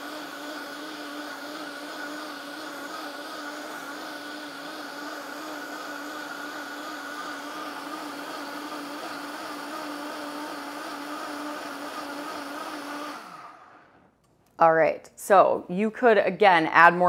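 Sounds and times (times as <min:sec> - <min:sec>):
blender motor whine: 0:00.0 - 0:14.1.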